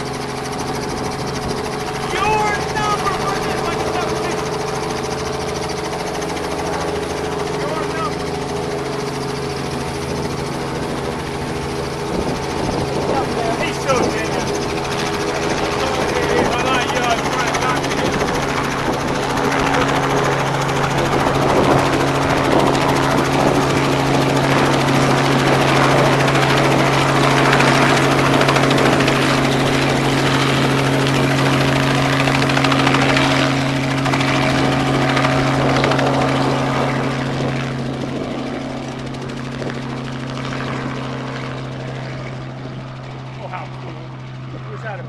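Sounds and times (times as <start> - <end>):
helicopter flying: 0.0 - 45.0.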